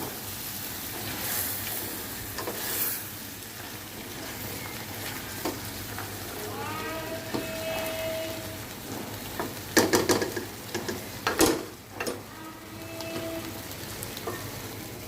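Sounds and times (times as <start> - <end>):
curry sizzling in a pan: 0.0 - 15.0.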